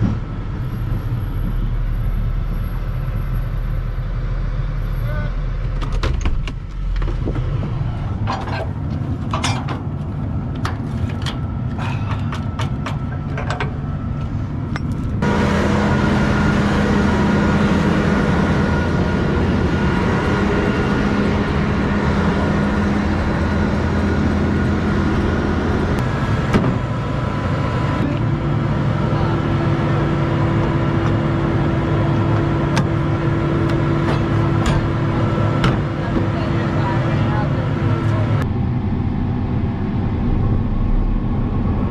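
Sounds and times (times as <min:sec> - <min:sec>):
farm vehicle engine running: 0:00.0 - 0:41.9
strong steady hum: 0:00.0 - 0:41.9.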